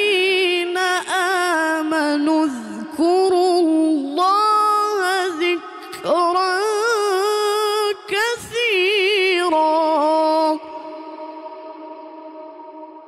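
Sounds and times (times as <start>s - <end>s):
boy reciting melodically: 0.0s - 13.0s.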